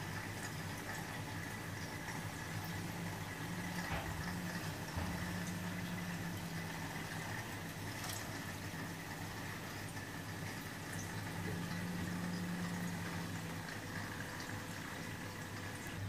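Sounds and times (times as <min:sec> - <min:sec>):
aquarium equipment humming: 0:00.0 - 0:16.0
water moving through tank: 0:00.0 - 0:16.0.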